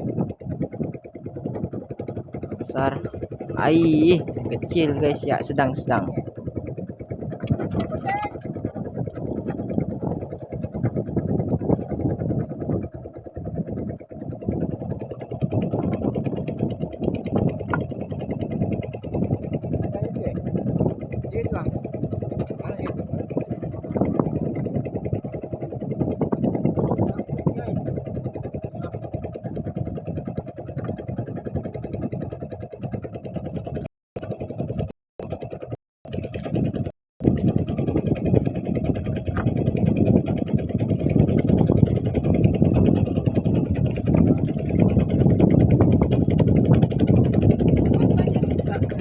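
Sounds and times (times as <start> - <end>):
boat engine running: 0.0 - 49.0
rough low rumbling noise: 0.0 - 49.0.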